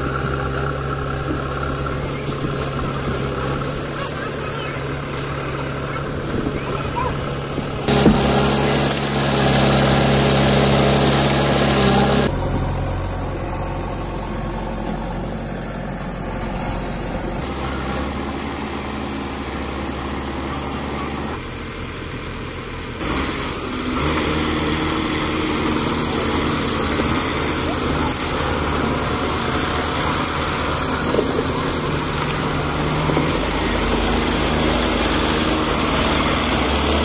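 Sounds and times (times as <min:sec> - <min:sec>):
diesel engines running: 0:00.0 - 0:37.0.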